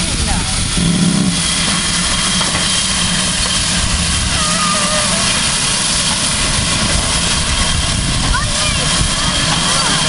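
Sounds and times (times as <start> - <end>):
locomotive steady hiss: 0.0 - 10.0
low hum: 0.0 - 10.0.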